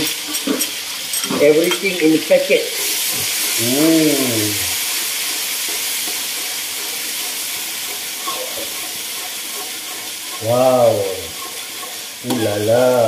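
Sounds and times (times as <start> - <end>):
paste sizzling in hot oil: 0.0 - 13.0
spatula stirring in wok: 0.0 - 13.0.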